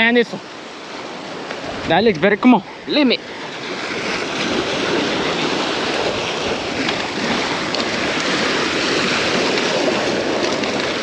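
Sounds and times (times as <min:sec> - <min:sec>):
sea waves splashing on boulders: 0:00.0 - 0:11.0.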